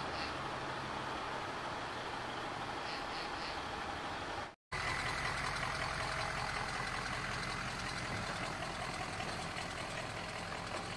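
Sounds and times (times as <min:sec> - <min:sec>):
vehicle engines rumbling: 0:00.0 - 0:10.9.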